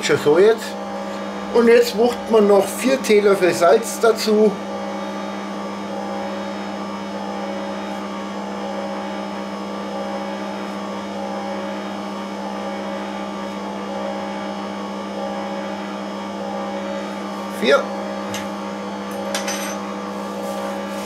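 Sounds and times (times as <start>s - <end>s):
stand mixer motor humming: 0.0s - 21.0s.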